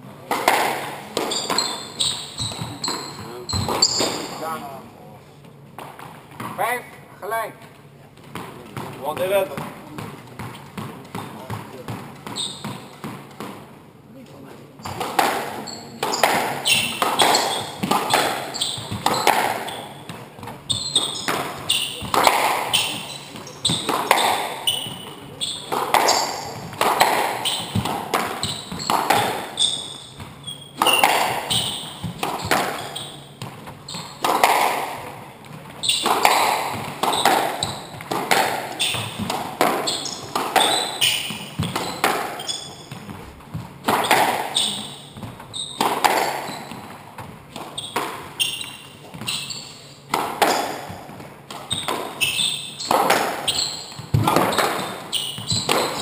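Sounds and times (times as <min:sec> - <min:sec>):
squash ball hits ringing: 0:00.2 - 0:04.8, 0:08.3 - 0:13.6, 0:14.8 - 0:56.0.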